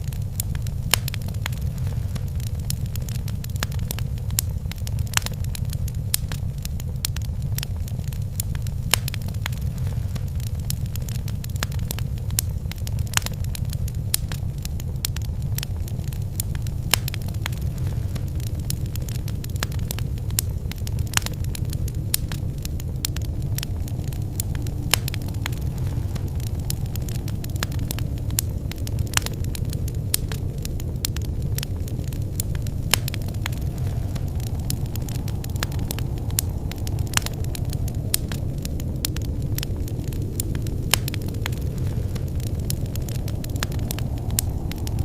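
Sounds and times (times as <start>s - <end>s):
fire popping and snapping: 0.0s - 45.0s
fire rumbling: 0.0s - 45.0s.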